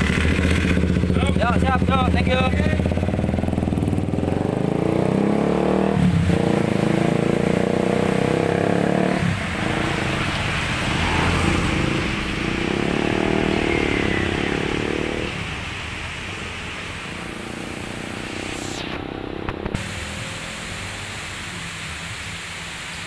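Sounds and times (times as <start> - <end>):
motorcycle revving and pulling away: 0.0 - 22.2
street traffic: 0.0 - 23.0.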